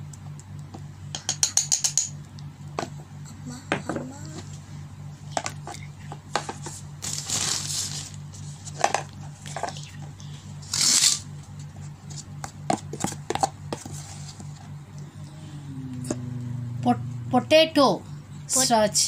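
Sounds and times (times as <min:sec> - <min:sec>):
pulsing low hum: 0:02.3 - 0:19.0.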